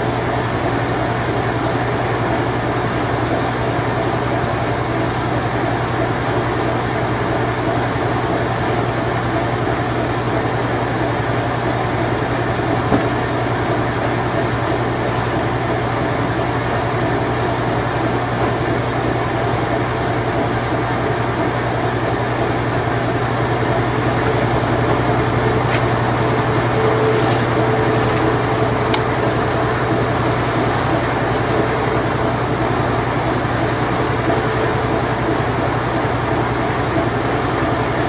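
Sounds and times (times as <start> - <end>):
washing machine spinning: 0.0 - 38.0.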